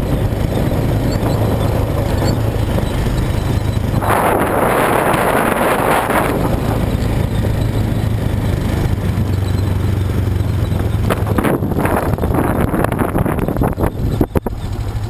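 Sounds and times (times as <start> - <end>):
wind on microphone: 0.0 - 14.6
quad bike engine running: 0.0 - 15.0.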